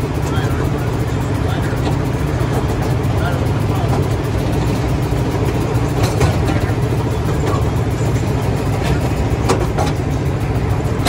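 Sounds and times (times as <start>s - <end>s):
miniature train rumbling: 0.0s - 11.0s.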